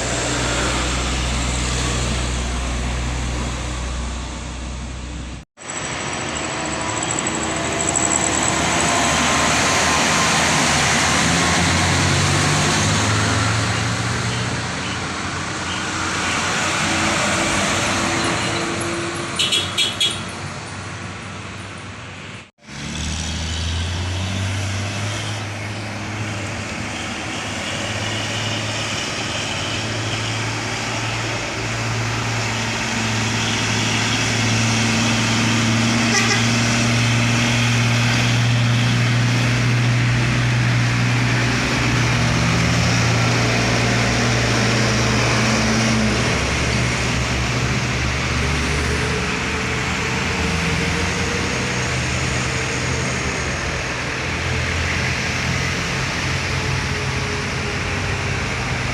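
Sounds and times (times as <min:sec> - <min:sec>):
heavy truck engine labouring: 0:00.0 - 0:19.8, 0:20.4 - 0:58.9.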